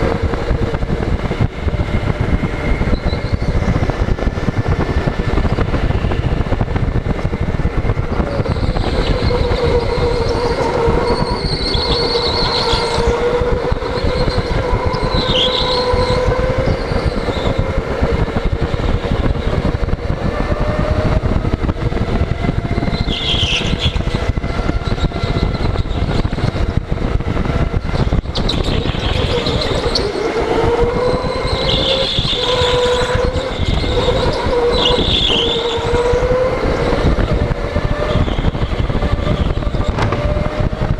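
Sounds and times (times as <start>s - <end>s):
go-kart engine rumble: 0.0s - 40.9s.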